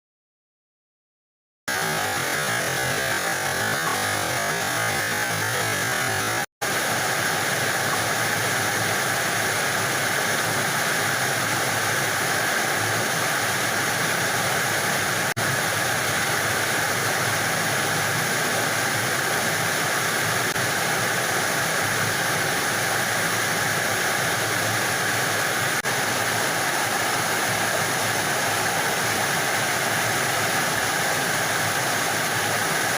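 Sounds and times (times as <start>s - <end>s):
waterfall rushing: 1.7s - 32.9s.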